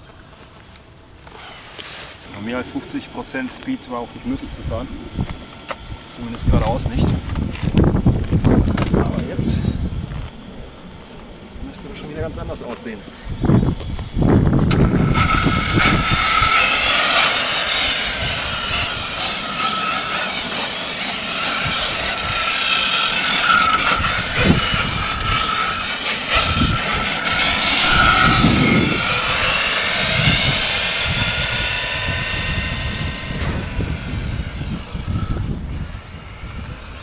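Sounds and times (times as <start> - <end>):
electric motor whining: 1.2 - 37.0.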